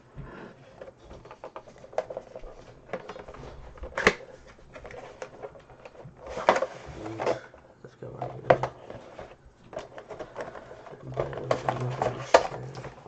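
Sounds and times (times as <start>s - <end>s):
packaging clicks and rustles: 0.8s - 13.0s.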